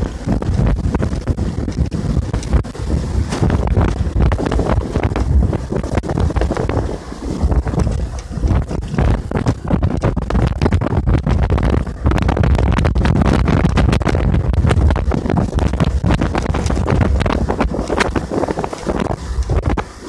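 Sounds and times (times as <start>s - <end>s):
outboard motor running: 0.0s - 20.0s
wind buffeting microphone: 0.0s - 20.0s.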